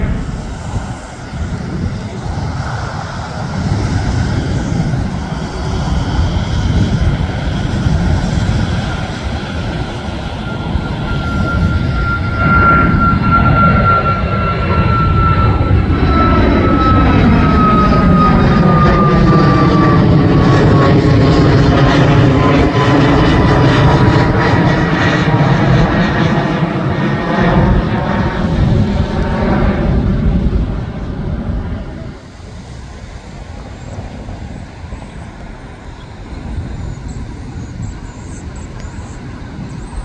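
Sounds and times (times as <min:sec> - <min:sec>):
high jet whine: 0:00.0 - 0:40.0
jet engine rush: 0:00.0 - 0:40.0.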